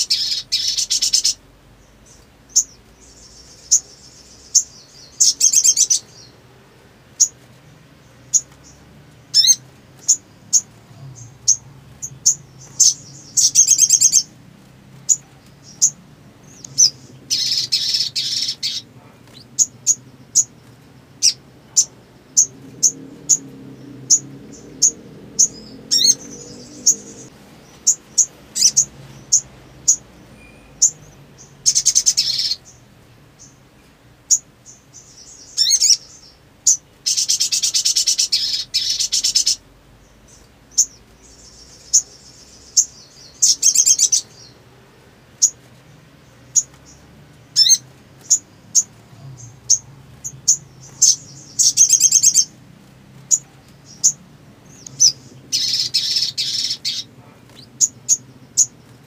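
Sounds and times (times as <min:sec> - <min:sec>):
sunbird chips and buzzy trills: 0:00.0 - 0:59.0.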